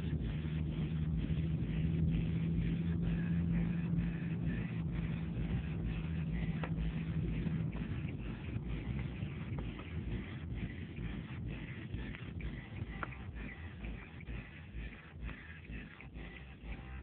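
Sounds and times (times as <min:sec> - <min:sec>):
car engine drone from cabin: 0:00.0 - 0:17.0.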